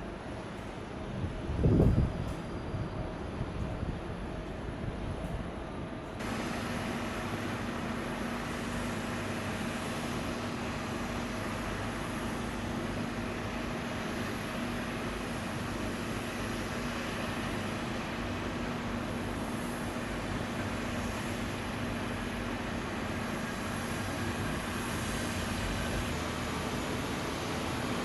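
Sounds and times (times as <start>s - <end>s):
jet engines humming: 0.0s - 28.0s.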